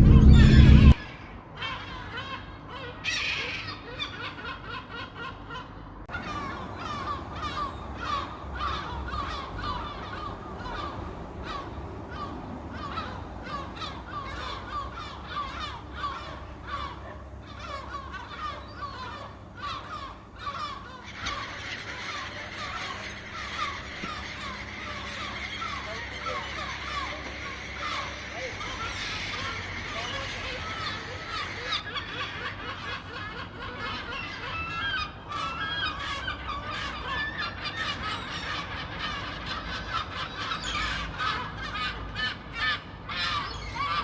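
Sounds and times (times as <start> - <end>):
gulls calling: 0.0 - 1.0, 6.1 - 44.0.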